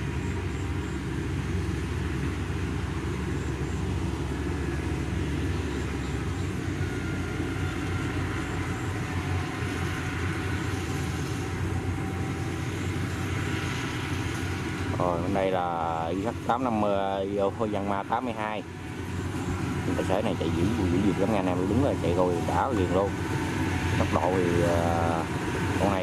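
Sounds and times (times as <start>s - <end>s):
diesel engine drone: 0.0s - 26.0s.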